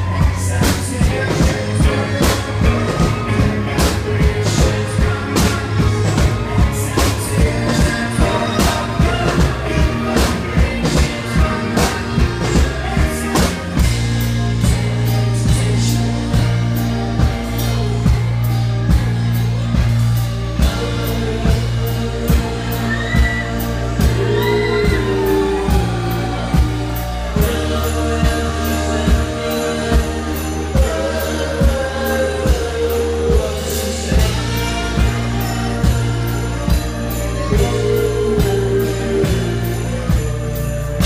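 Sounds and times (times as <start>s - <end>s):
bass: 0.0s - 41.0s
drum beat: 0.0s - 41.0s
guitar: 0.0s - 41.0s
keyboard: 0.0s - 41.0s
lead and harmony vocals: 0.0s - 41.0s.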